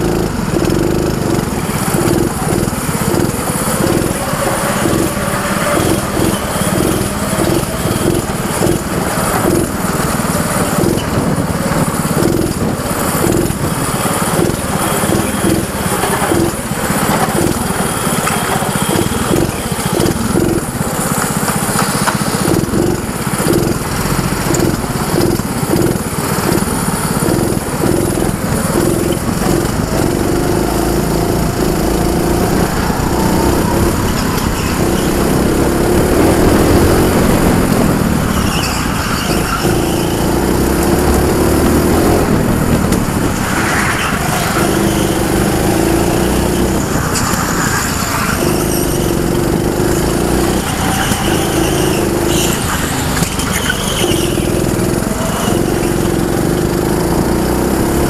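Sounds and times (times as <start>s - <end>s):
go-kart engine running hard: 0.0s - 58.0s.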